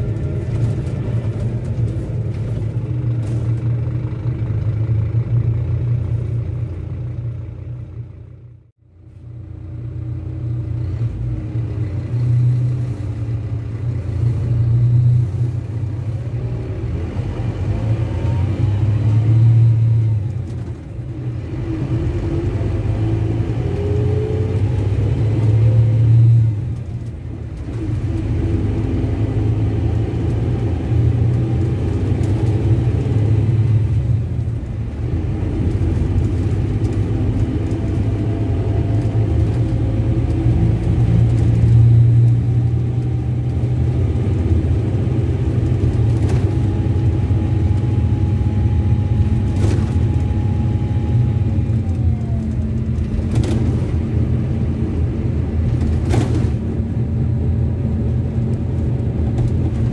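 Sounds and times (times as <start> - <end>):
diesel bus engine under load: 0.0 - 59.9
engine whine: 0.0 - 59.9.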